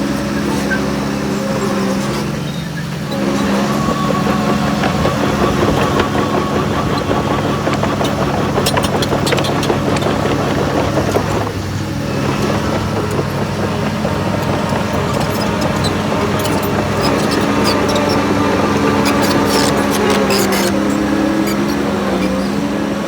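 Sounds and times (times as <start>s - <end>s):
heavy diesel machine engine: 0.0s - 23.0s.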